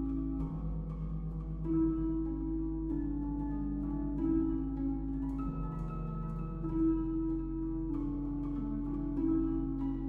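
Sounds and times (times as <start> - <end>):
low bass: 0.0 - 10.0
plucked and chiming music: 0.0 - 10.0.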